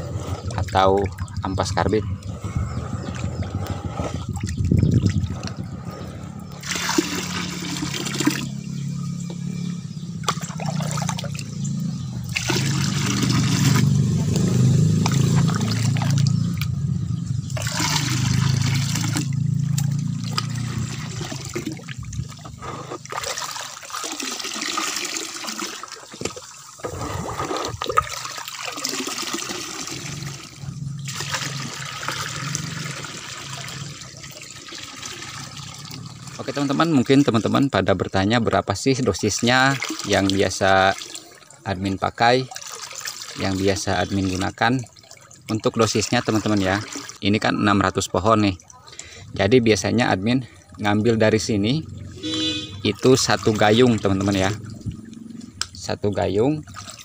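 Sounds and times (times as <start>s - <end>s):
liquid sloshing in a plastic tub: 0.2s - 8.8s, 10.2s - 16.8s, 17.4s - 57.0s
liquid pouring: 4.2s - 8.6s, 10.2s - 11.6s, 12.2s - 14.4s, 17.5s - 38.1s, 39.0s - 57.0s.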